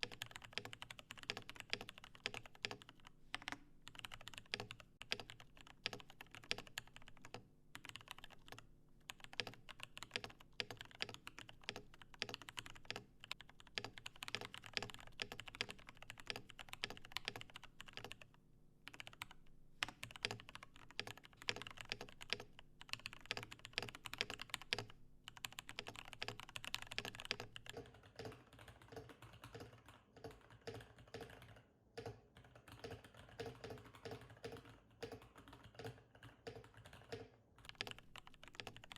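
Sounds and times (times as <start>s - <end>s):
fast typing on mechanical keyboard: 0.0s - 18.3s, 18.9s - 38.9s.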